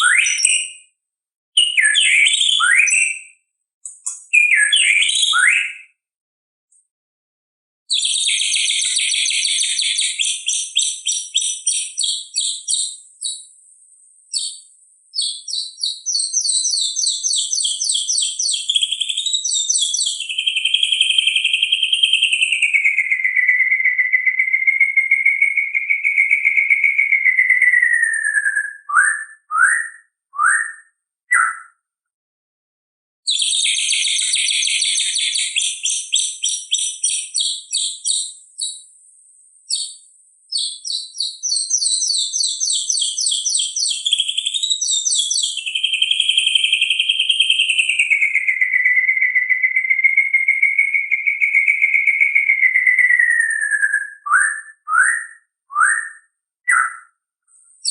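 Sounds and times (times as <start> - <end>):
bird singing trills and whistles: 0.0 - 0.9, 1.6 - 6.0, 7.9 - 13.6, 14.3 - 31.8, 33.3 - 38.9, 39.7 - 57.2.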